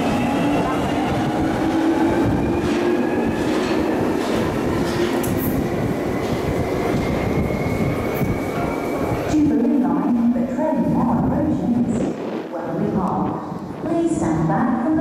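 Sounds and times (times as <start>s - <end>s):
train wheels rumbling on rail: 0.0s - 14.5s.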